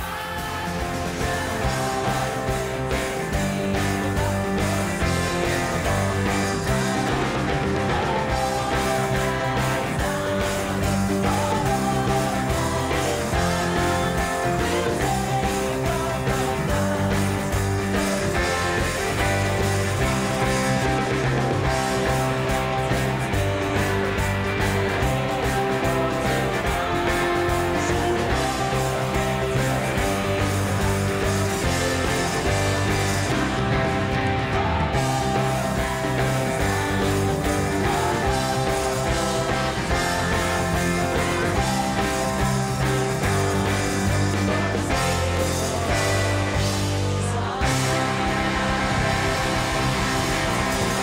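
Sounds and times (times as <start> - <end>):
live band playing: 0.0 - 51.0.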